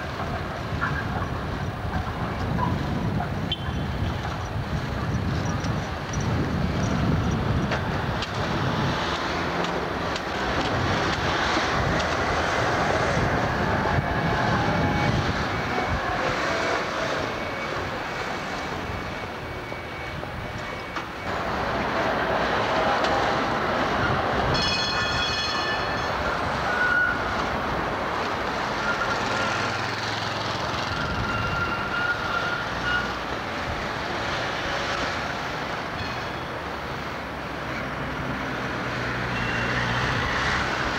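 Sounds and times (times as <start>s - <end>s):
road traffic noise: 0.0s - 40.9s
tram wheels rumbling on tracks: 0.0s - 40.9s.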